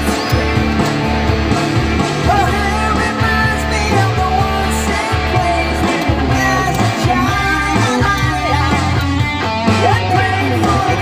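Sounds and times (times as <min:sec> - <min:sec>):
electric guitar lead with bent notes: 0:00.0 - 0:11.0
steady bass backing: 0:00.0 - 0:11.0.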